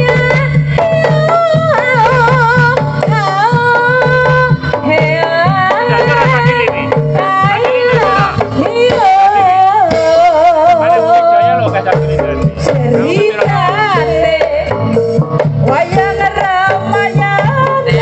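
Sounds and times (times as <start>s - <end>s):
gamelan music over loudspeakers: 0.0s - 18.0s
hand drums beating fast rhythm: 0.0s - 18.0s.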